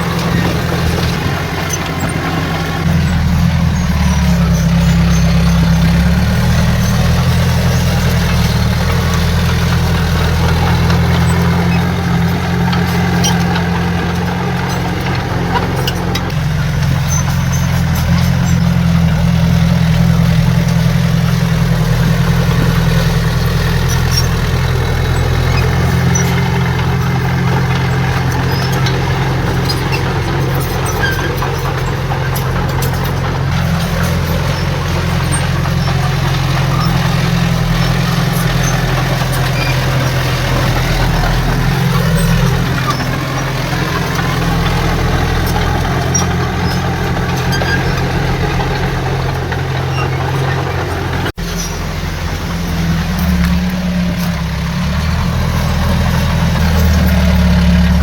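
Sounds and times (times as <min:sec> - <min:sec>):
diesel machinery engine hum: 0:00.0 - 0:58.0.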